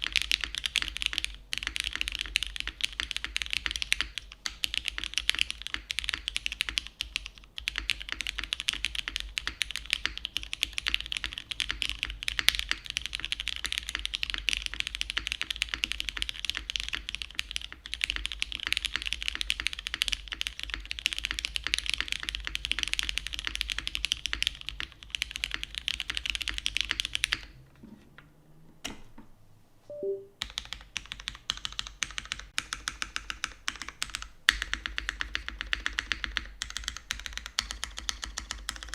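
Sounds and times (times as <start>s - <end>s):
fast typing on mechanical keyboard: 0.0s - 27.6s, 30.4s - 38.9s.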